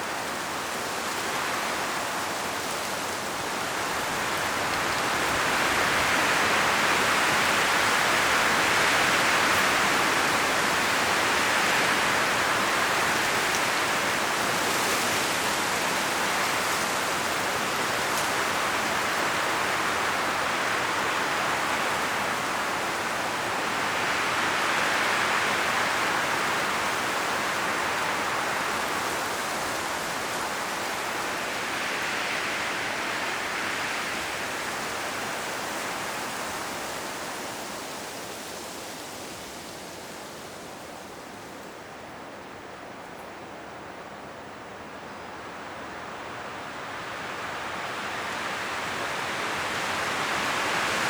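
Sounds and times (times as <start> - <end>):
wind rustling tree leaves: 0.0 - 51.0.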